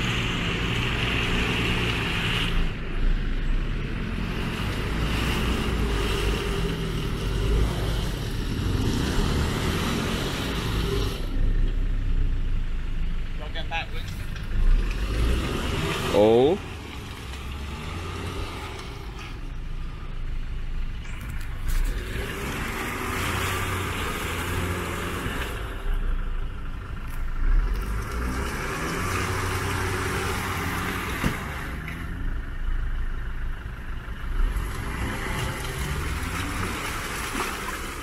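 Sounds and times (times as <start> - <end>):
mud churning from tyres: 0.0 - 11.5, 13.5 - 20.3, 21.0 - 26.1, 27.0 - 32.2, 33.8 - 38.0
suv engine pulling: 0.0 - 38.0.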